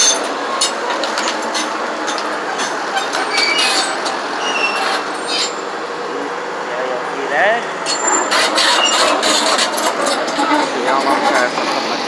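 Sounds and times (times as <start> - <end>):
steel tracks squealing: 0.0 - 6.2, 7.0 - 12.0
bulldozer engine running: 0.0 - 12.0
steel tracks clanking: 0.0 - 12.0.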